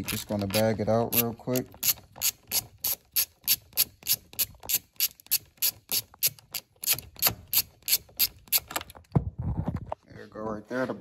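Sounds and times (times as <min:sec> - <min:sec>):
socket ratchet clicking: 0:00.0 - 0:08.9.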